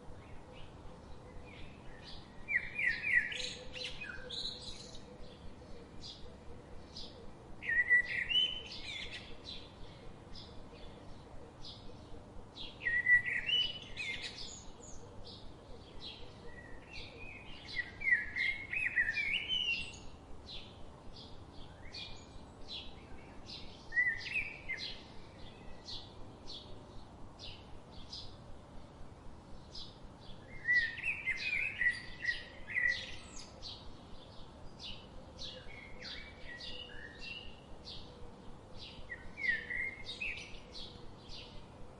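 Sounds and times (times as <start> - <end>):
bird song phrases: 0.0 - 41.9.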